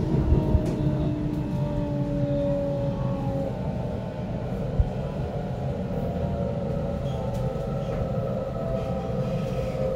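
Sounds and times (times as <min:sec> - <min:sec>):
train interior rumble: 0:00.0 - 0:09.9.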